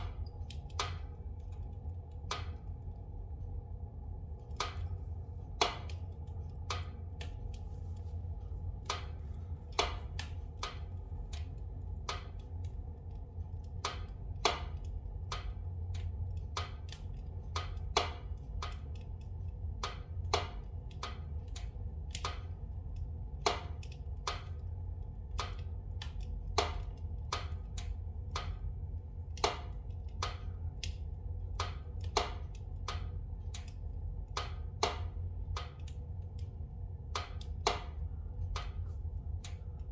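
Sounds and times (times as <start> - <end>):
fire crackling and popping: 0.0 - 3.5, 4.3 - 39.9
fire low rumble: 0.0 - 39.9.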